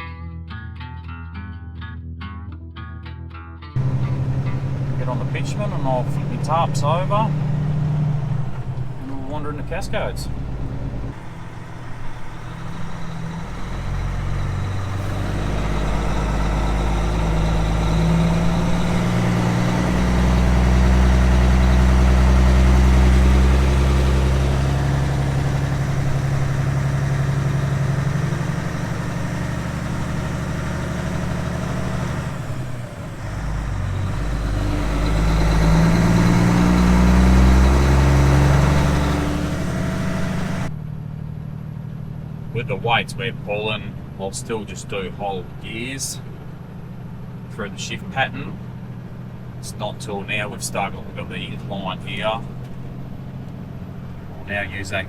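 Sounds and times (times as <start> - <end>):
diesel truck engine accelerating: 3.7 - 55.0.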